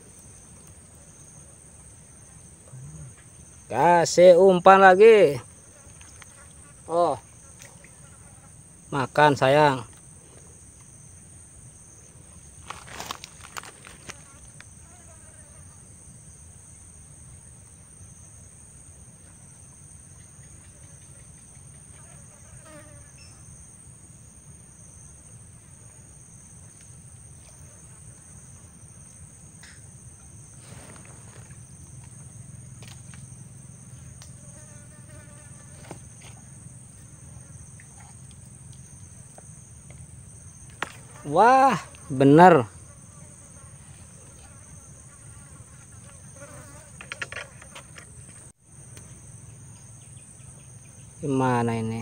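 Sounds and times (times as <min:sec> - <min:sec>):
insects humming: 0:00.0 - 0:52.0.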